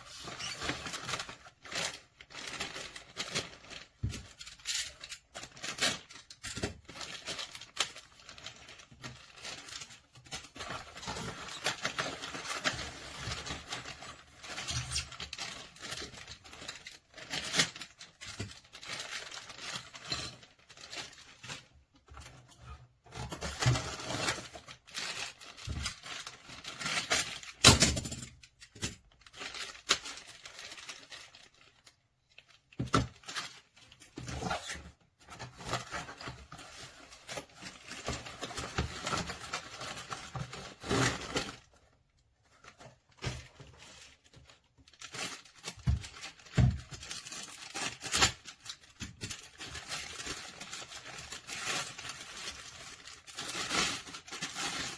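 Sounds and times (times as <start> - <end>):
objects rustling and clicking: 0.0 - 54.9.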